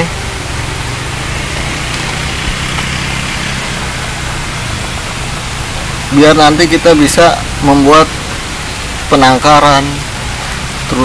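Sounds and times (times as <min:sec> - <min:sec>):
engine idling: 0:00.0 - 0:11.0
steady hiss: 0:00.0 - 0:11.0.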